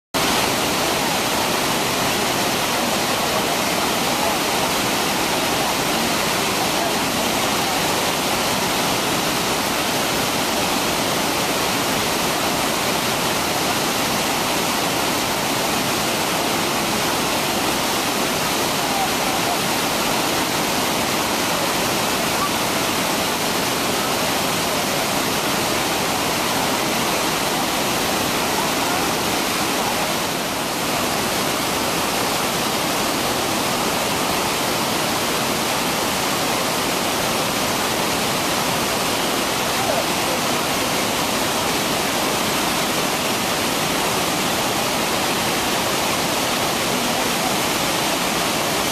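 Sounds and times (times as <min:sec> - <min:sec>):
roar of falling water: 0:00.2 - 0:48.9.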